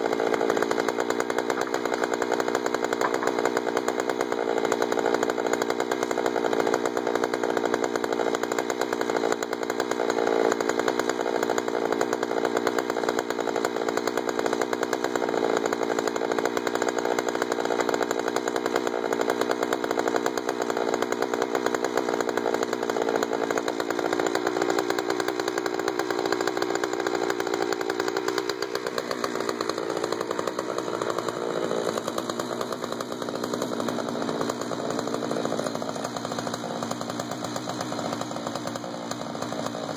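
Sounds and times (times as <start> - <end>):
chainsaw cutting wood at full throttle: 0.0 - 39.9.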